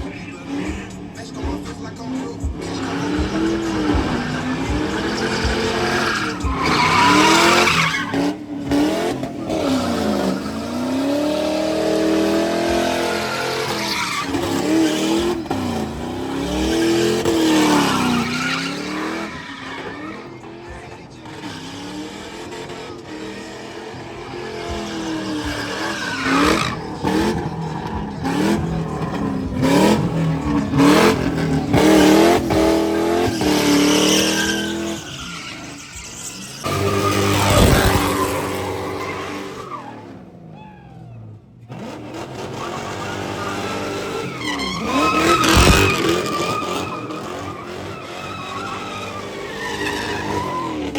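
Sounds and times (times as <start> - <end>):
car engine revving: 0.0 - 50.9
tyres squealing and skidding: 0.0 - 50.9.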